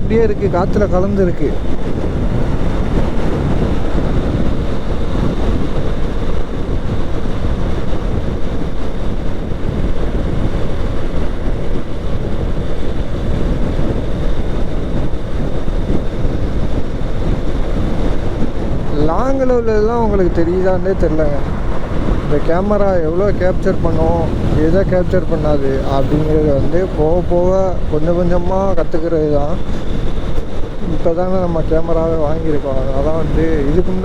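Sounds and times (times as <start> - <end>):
road noise: 0.0 - 34.0
wind rushing over microphone: 0.0 - 34.0
motorcycle running: 0.1 - 34.0.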